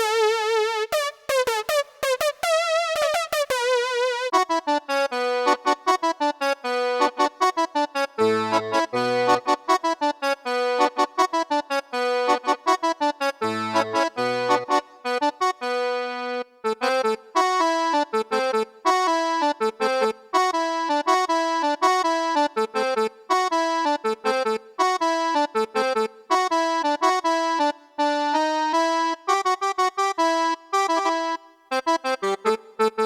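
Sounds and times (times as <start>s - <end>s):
repeated low keyboard notes: 4.4s - 33.0s.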